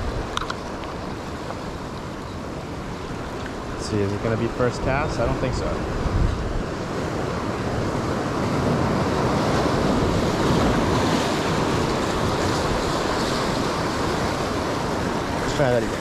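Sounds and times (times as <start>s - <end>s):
ocean surf washing up beach: 0.0s - 16.0s
wind buffeting microphone: 2.9s - 16.0s.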